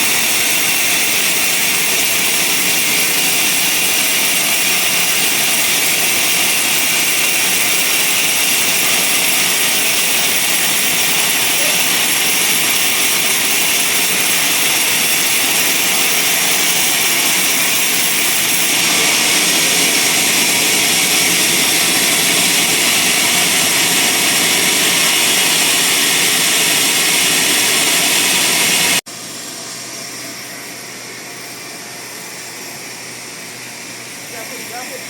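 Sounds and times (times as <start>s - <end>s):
bandsaw mill running: 0.0s - 35.0s.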